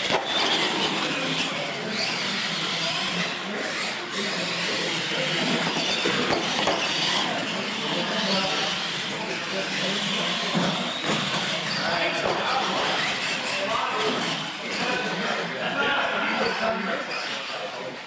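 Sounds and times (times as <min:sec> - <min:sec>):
electric motors and gears whining: 0:00.0 - 0:15.6.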